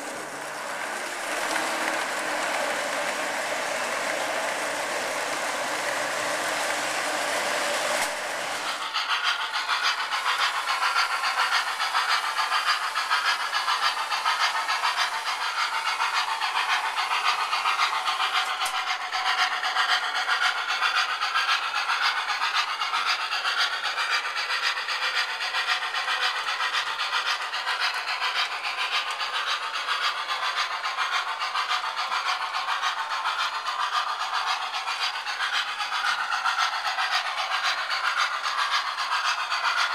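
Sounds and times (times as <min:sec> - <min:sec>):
model locomotive rasping: 0:00.0 - 0:39.9.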